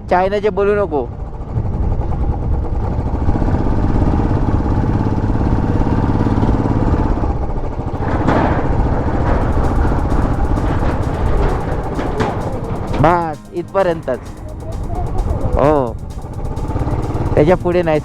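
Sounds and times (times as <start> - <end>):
motorcycle engine running: 0.6 - 18.0.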